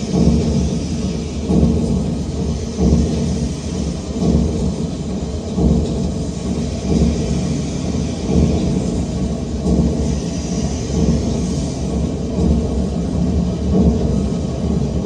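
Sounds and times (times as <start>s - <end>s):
low rhythmic rumbling: 0.0s - 15.0s.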